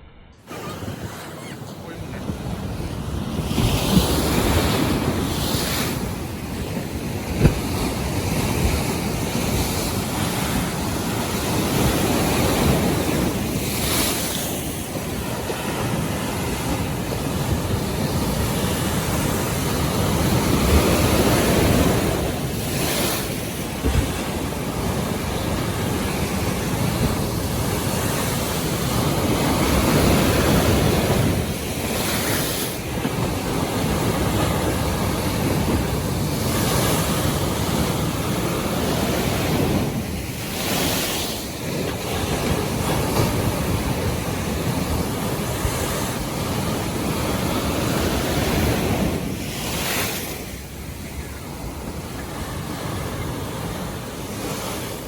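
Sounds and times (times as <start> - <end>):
waves washing: 0.0 - 55.0
wind on microphone: 0.0 - 55.0.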